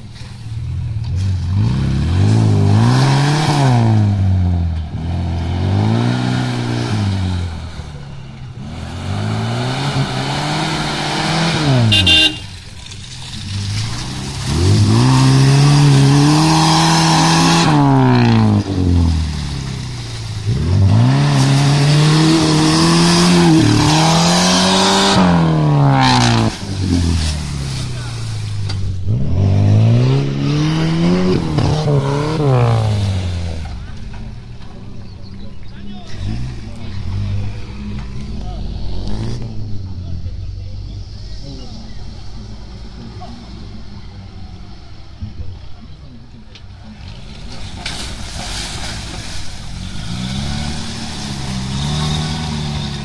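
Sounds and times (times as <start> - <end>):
off-road engine revving: 0.0 - 53.0.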